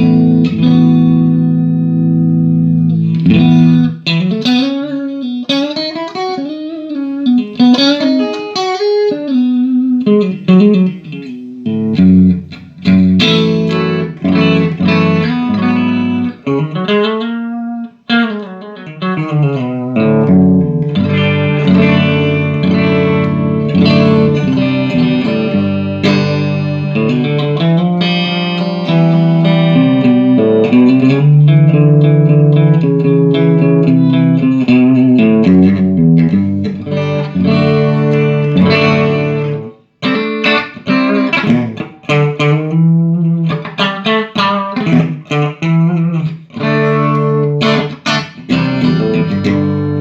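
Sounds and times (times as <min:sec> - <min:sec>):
electric guitar chords and lines: 0:00.0 - 0:50.0.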